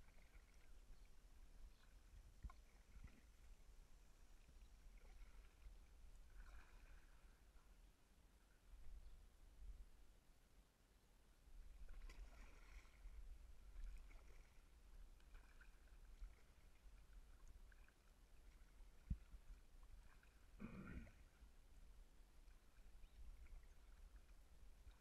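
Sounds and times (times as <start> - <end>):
muffled paddle strokes in water: 0.0 - 7.8, 11.6 - 25.0.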